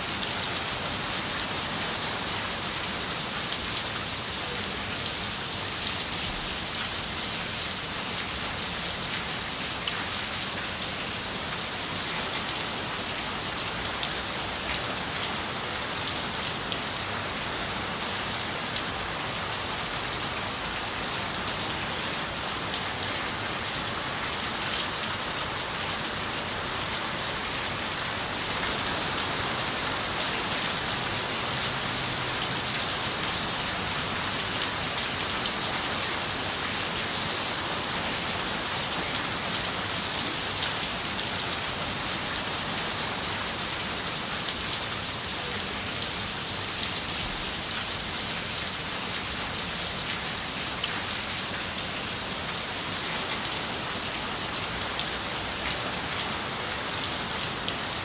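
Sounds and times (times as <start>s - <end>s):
rain on a window: 0.2s - 58.0s.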